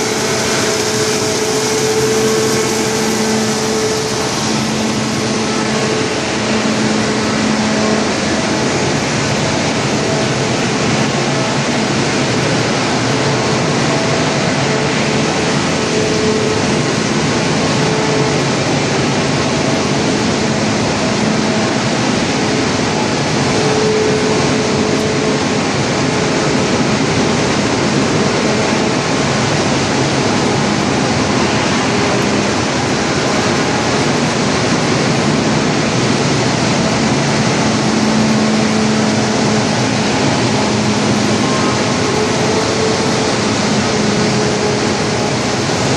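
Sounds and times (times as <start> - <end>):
faint wavering hum: 0.0 - 45.9
wood chipper running: 0.0 - 45.9.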